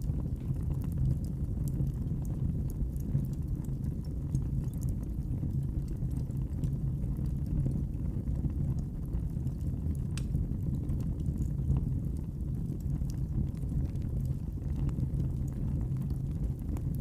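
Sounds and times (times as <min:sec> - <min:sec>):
steady low rumble: 0:00.0 - 0:17.0
wood fire crackling: 0:00.0 - 0:17.0.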